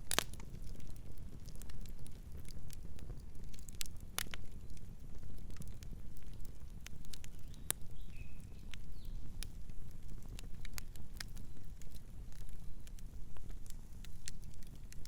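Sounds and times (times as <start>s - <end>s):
campfire crackling and popping: 0.0s - 15.0s
low rumble of burning fire: 0.0s - 15.0s.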